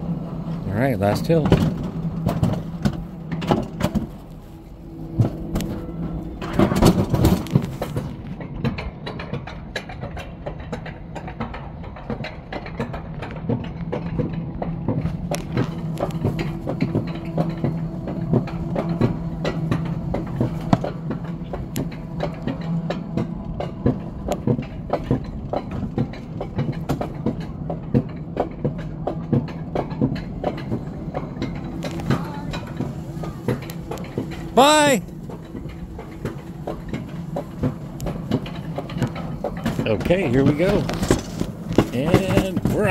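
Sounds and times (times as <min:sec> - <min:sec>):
sled clattering on steel track: 0:00.0 - 0:42.9.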